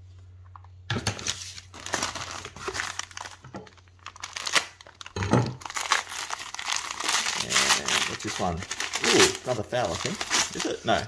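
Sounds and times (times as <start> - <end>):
packing paper rustling and crumpling: 1.0 - 11.0.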